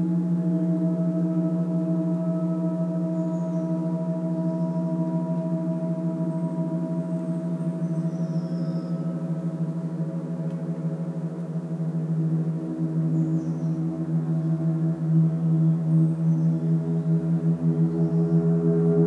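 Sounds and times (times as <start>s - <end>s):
gong ringing drone: 0.0s - 19.0s.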